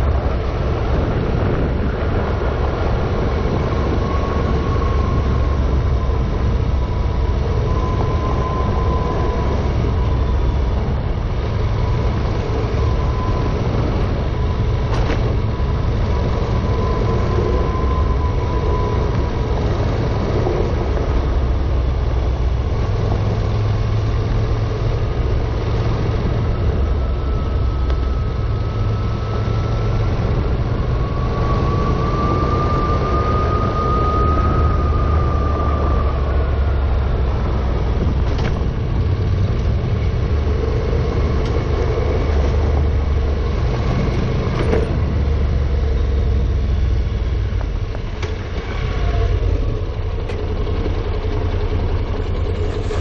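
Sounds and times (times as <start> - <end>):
motorcycle engine running: 0.0 - 53.0
tyre and wind noise: 0.0 - 53.0.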